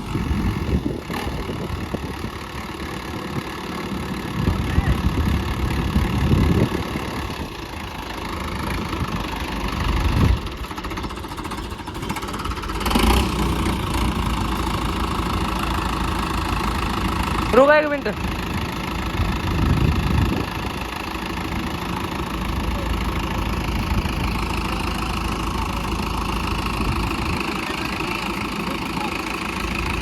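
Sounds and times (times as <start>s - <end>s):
tractor diesel engine running hard: 0.0s - 30.0s.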